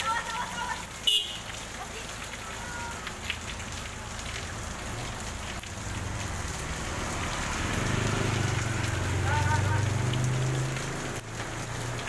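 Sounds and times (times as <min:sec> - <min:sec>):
heavy rain on wet road: 0:00.0 - 0:12.0
passing vehicle on wet road: 0:00.0 - 0:12.0.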